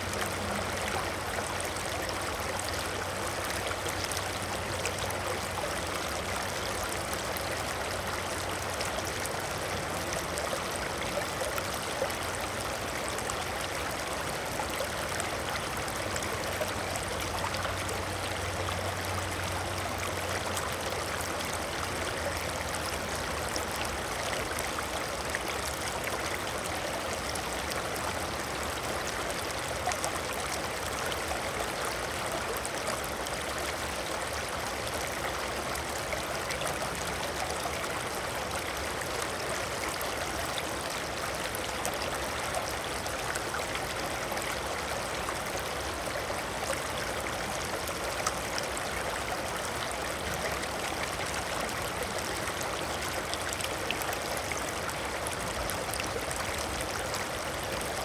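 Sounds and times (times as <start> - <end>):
water flowing: 0.0 - 58.0.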